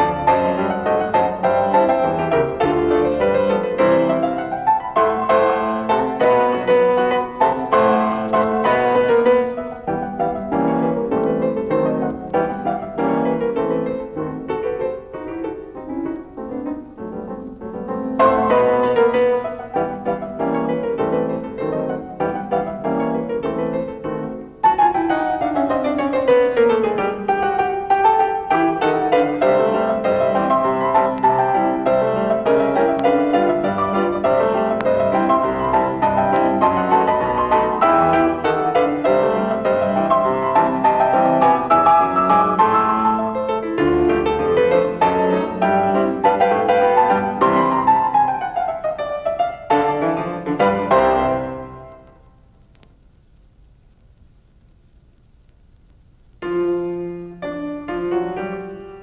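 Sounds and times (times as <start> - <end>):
solo piano music: 0.0 - 52.8, 55.7 - 59.0.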